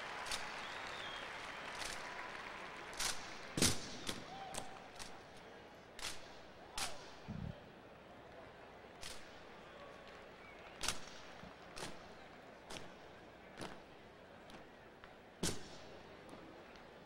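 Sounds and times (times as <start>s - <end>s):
crowd murmur: 0.0s - 17.0s.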